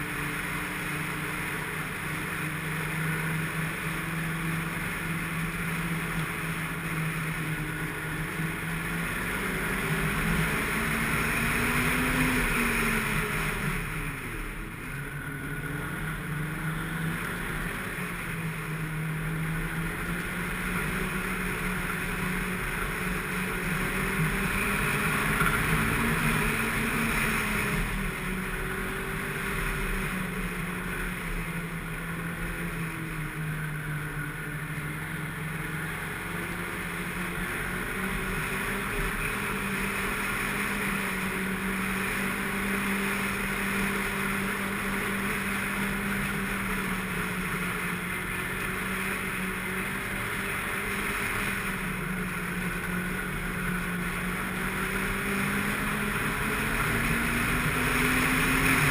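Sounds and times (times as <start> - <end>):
snowmobile engine running: 0.0 - 58.9.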